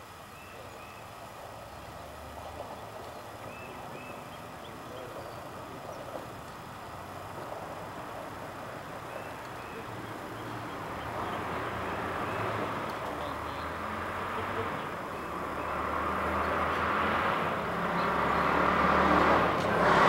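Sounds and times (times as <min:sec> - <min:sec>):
vehicle engine approaching: 0:00.0 - 0:20.0.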